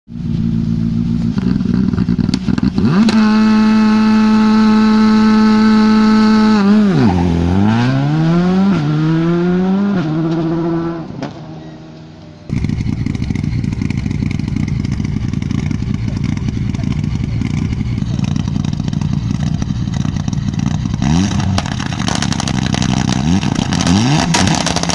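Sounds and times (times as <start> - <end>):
rally car engine revving: 0.1 - 24.9
rough engine noise: 0.1 - 24.9.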